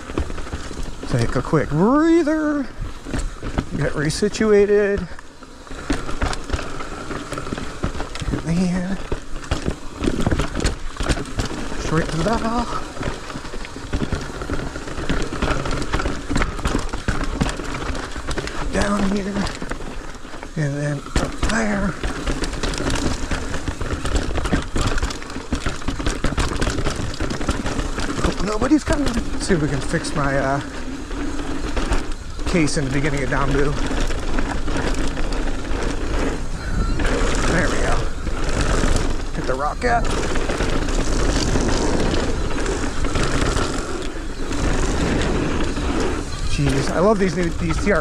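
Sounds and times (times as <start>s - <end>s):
bike knocks and rattles: 0.0s - 48.0s
bike tyre rumble on dirt: 0.0s - 48.0s.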